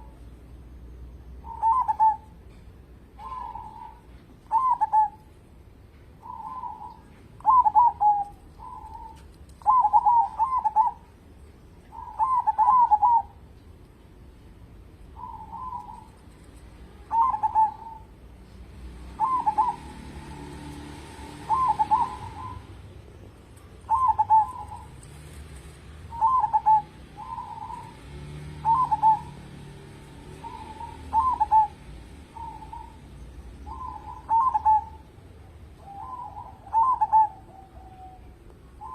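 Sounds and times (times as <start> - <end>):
dove cooing: 1.4 - 2.4, 3.2 - 5.3, 6.2 - 11.1, 11.9 - 13.4, 15.1 - 18.2, 19.0 - 38.9.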